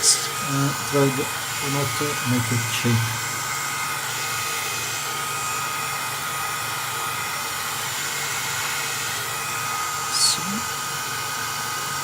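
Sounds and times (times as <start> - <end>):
hot-air blower whining: 0.0 - 12.0.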